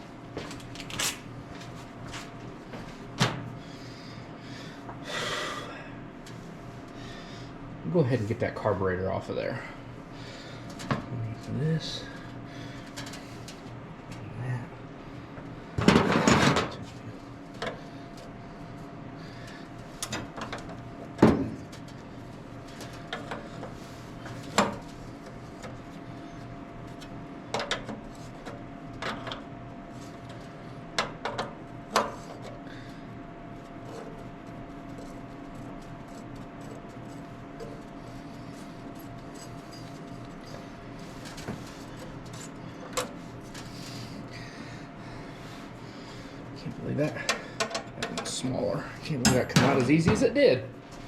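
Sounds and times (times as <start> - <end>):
steady hum: 0.0 - 51.0.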